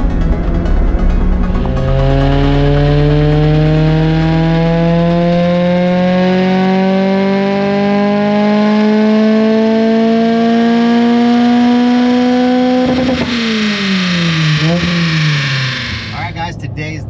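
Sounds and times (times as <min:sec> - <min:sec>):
car engine at full throttle: 0:00.0 - 0:16.9.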